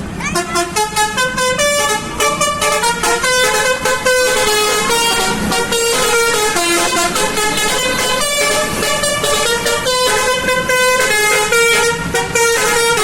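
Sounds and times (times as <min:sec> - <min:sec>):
multi-tone air horn tune: 0:00.3 - 0:13.0.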